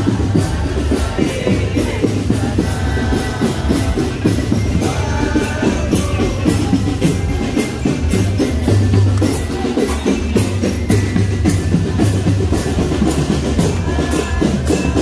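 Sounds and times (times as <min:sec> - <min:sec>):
marching bass and snare drums: 0:00.0 - 0:15.0.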